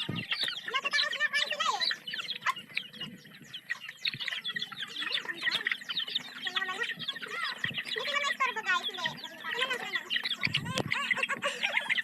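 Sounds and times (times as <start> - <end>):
chickens peeping and clucking: 0.0 - 12.0.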